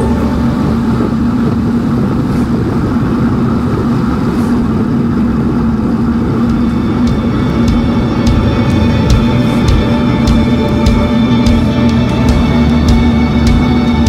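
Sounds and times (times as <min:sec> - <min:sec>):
bicycle tyre rumble: 0:00.0 - 0:14.0
constant low hum: 0:00.0 - 0:14.0
wind rush on microphone: 0:00.0 - 0:14.0.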